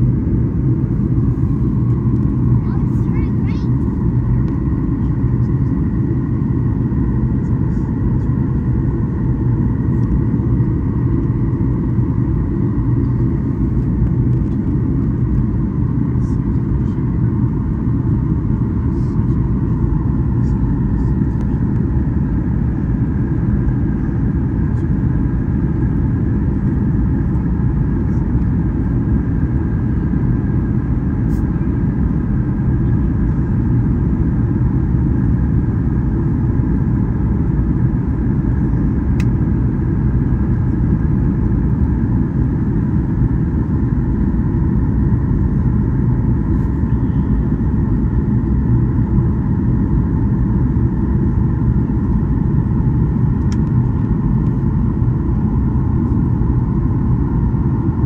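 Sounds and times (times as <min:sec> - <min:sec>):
engine and airflow rumble: 0:00.0 - 0:58.0
faint steady whine: 0:00.0 - 0:58.0.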